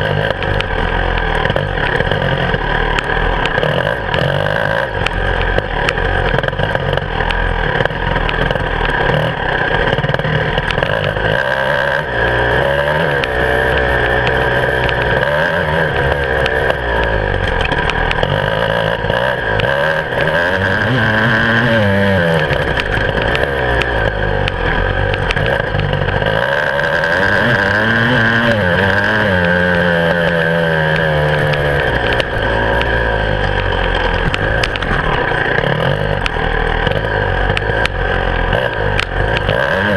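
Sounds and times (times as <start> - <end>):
motorcycle engine revving: 0.0 - 39.9
motorcycle knocks and rattles: 0.0 - 39.9.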